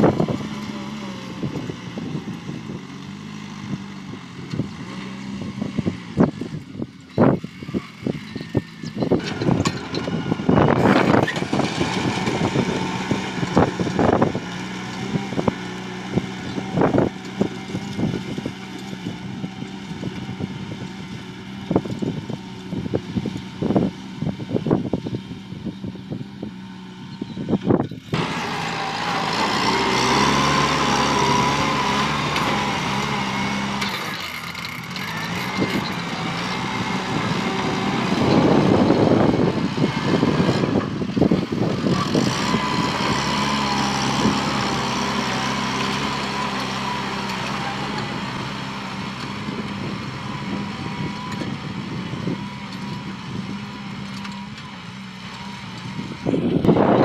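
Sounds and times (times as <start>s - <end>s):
tractor diesel engine running: 0.0s - 57.0s
wind gusts on microphone: 3.6s - 33.8s, 35.5s - 47.3s, 48.0s - 54.0s, 55.6s - 57.0s.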